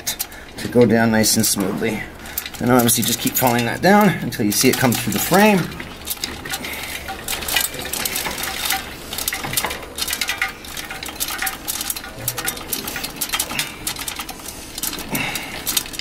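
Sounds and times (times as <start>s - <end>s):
cables clinking in metal frame: 0.0s - 16.0s.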